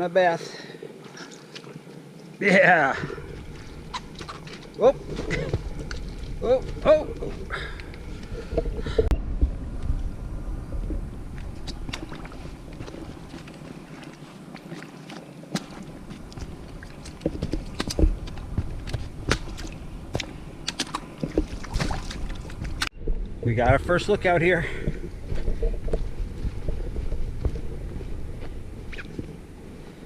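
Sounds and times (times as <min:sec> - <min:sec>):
footsteps on muddy rocky trail: 0:00.5 - 0:09.1, 0:10.7 - 0:22.9, 0:23.6 - 0:30.0
wind buffeting microphone: 0:03.0 - 0:14.6, 0:15.6 - 0:30.0.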